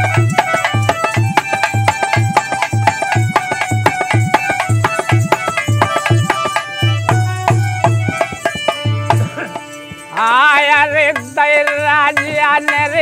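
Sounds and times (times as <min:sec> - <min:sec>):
sustained melody notes: 0:00.0 - 0:10.6
hand drum folk beat: 0:00.0 - 0:13.0.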